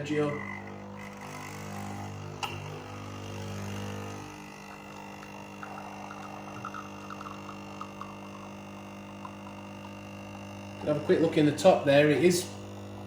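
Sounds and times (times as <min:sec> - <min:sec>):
coffee machine humming: 0:00.0 - 0:13.0
milk frother whirring: 0:00.0 - 0:13.0.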